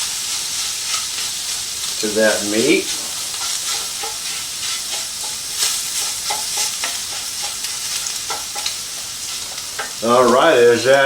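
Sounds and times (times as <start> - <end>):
utensil scraping a pan: 0.0 - 10.9
meat sizzling in a skillet: 0.0 - 11.0.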